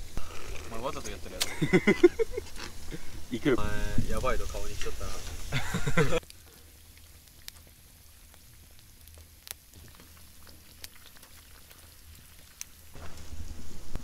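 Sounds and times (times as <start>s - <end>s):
fire popping: 0.0s - 14.0s
wood fire crackling: 0.0s - 14.0s.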